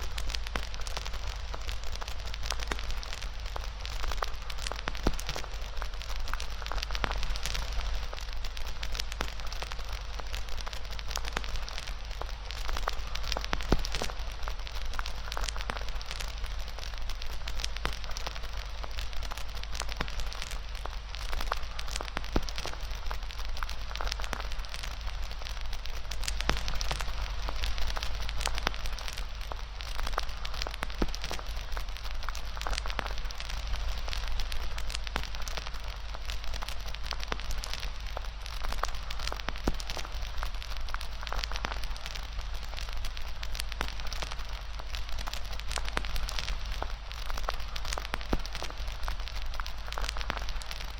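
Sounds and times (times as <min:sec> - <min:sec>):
campfire crackling: 0:00.0 - 0:50.9
sharp pops from burning fuel: 0:00.0 - 0:50.9.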